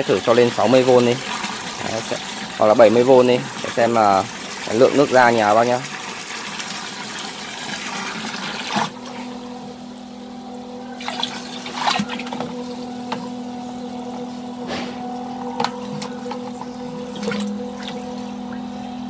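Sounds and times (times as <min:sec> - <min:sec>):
pump humming: 0:00.0 - 0:19.0
water gushing into plastic drum: 0:00.0 - 0:19.0.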